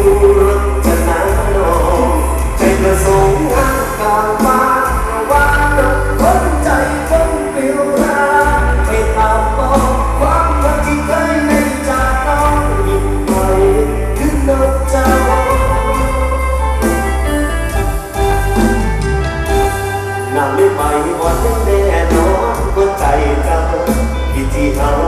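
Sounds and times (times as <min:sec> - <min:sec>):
song with deep bass: 0:00.0 - 0:25.0.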